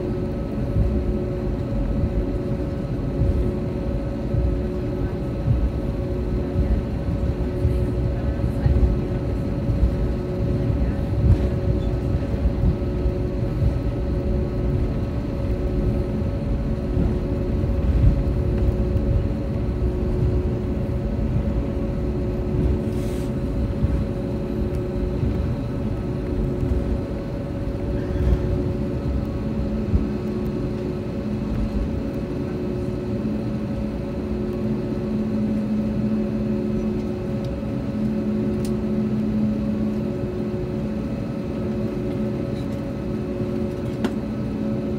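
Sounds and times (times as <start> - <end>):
deeper hum: 0.0 - 42.2
aircraft cabin hum: 0.0 - 44.9
low engine rumble: 0.0 - 44.9.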